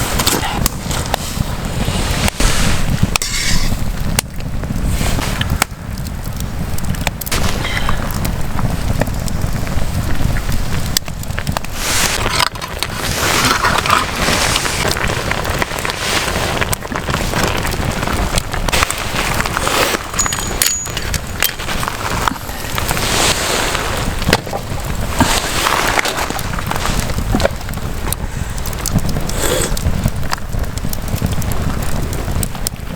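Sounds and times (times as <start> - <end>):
campfire crackling and popping: 0.0 - 32.9
wind rumbling on microphone: 0.0 - 32.9.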